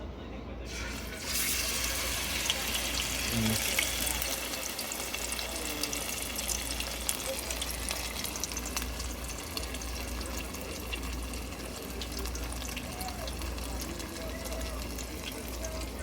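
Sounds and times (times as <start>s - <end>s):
fish frying in a pan: 0.7s - 16.0s.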